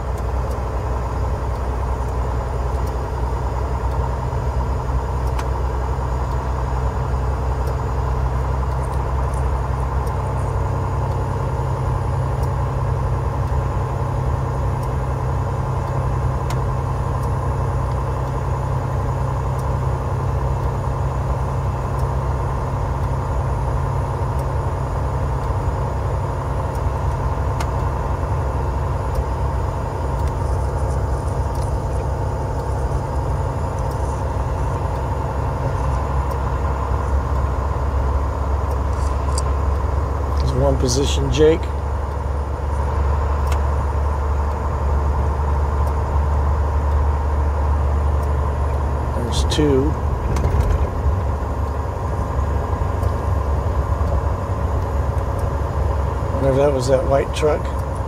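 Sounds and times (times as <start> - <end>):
truck diesel engine droning: 0.0 - 58.0.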